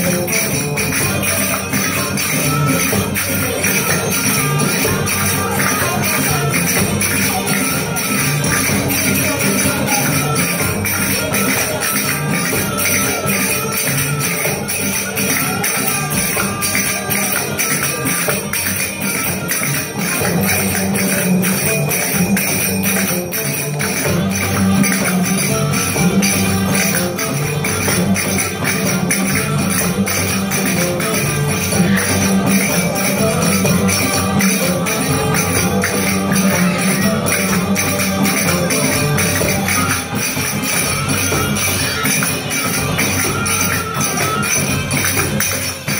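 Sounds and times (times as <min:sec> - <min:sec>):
belly dance music: 0:00.0 - 0:45.9
drum beat: 0:00.0 - 0:45.9.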